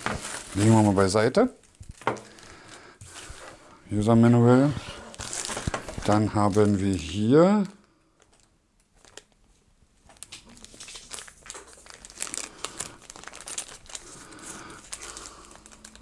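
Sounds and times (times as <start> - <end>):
plastic bag crinkling: 0.0 - 3.7, 5.0 - 16.0.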